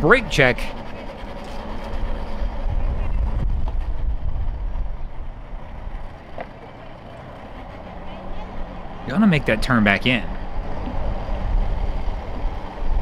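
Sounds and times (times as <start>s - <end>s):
outboard motor rumbling: 0.0s - 13.0s.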